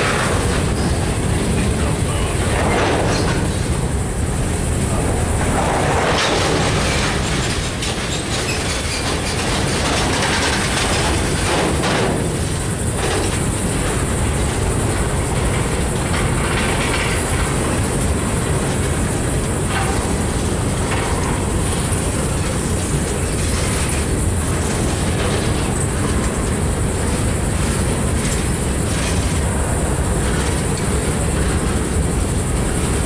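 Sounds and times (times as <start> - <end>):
steel wheels rolling on rail: 0.0 - 33.0
wheels clicking over rail joints: 0.0 - 33.0.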